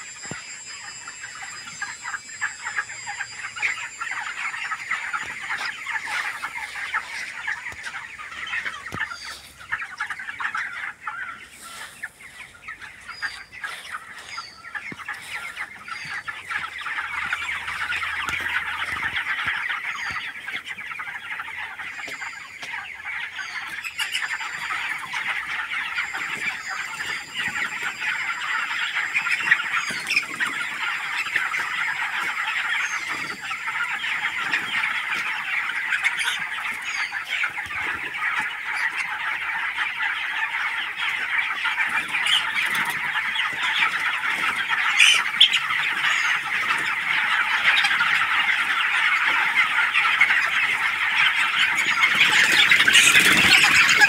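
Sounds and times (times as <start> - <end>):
chickens calling in chorus: 0.0 - 54.0.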